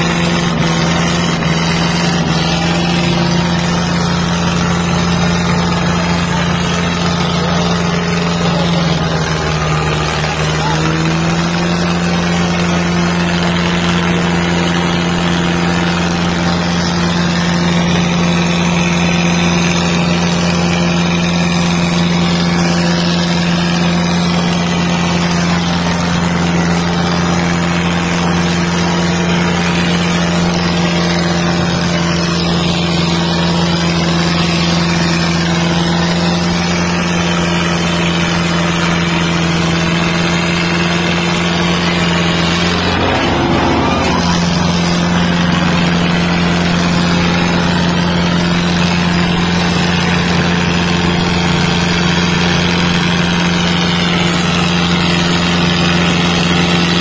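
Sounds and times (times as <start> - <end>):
tractor diesel engines under load: 0.0 - 57.0.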